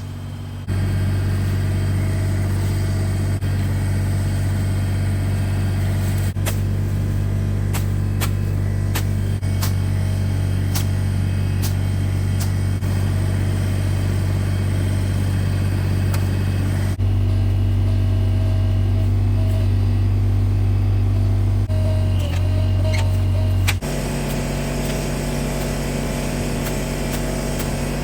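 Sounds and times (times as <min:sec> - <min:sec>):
diesel excavator engine running: 0:00.0 - 0:28.0.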